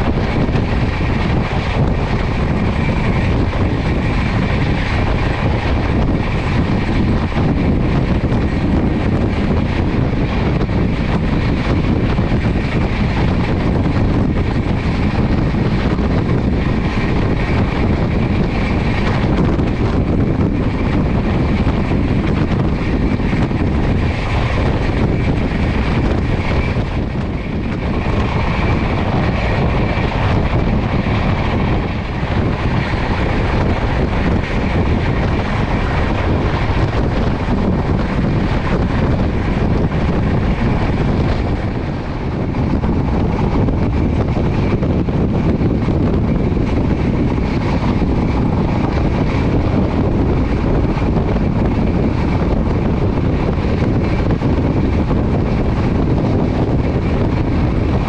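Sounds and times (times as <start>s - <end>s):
train rumbling at high speed: 0.0s - 58.0s.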